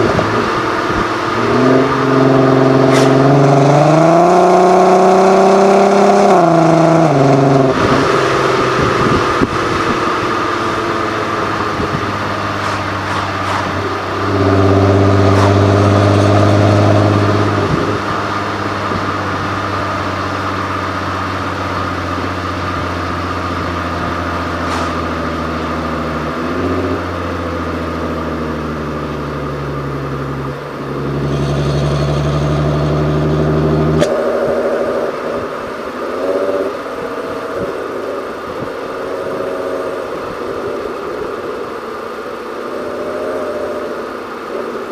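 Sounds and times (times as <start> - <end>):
car engine and exhaust running: 0.0 - 44.9.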